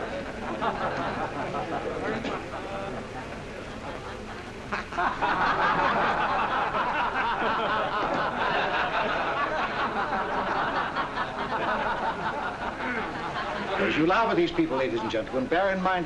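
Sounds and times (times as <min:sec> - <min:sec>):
audience laughing: 0:00.0 - 0:15.3.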